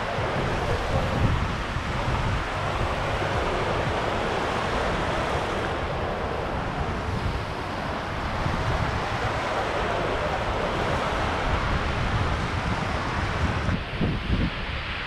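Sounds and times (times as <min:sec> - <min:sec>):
surf washing over sand: 0:00.0 - 0:15.0
wind buffeting microphone: 0:00.0 - 0:15.0.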